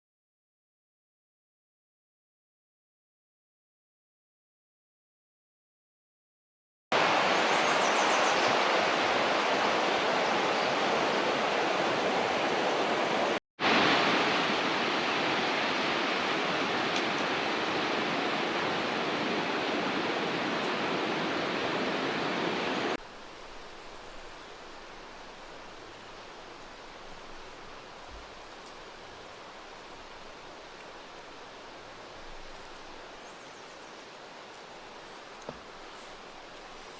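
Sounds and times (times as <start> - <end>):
fast river water rushing: 7.0 - 36.9.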